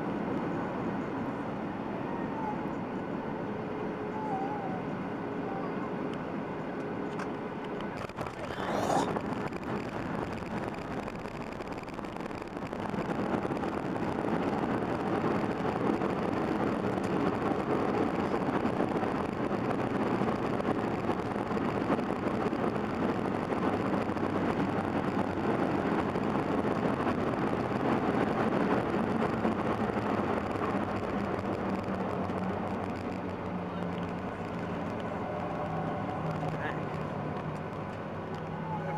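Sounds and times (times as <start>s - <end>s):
jet airliner cabin roar: 0.0s - 38.9s
low aircraft hum: 0.0s - 38.9s.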